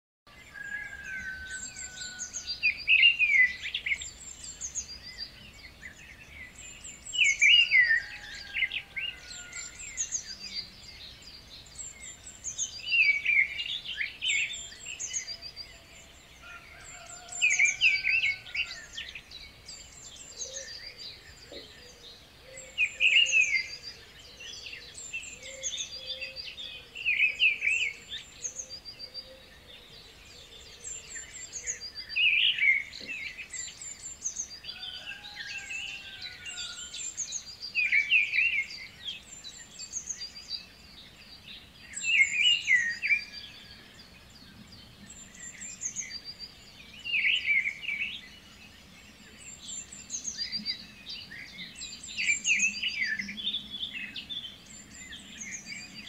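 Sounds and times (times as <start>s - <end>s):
birds singing and chirping: 0.3s - 56.0s.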